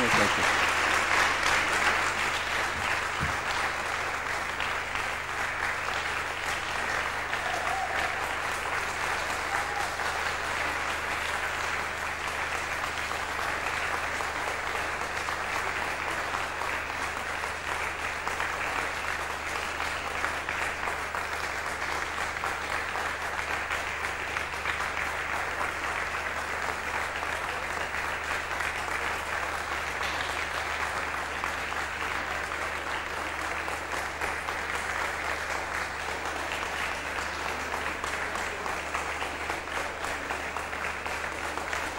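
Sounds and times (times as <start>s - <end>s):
audience applauding: 0.0s - 41.9s.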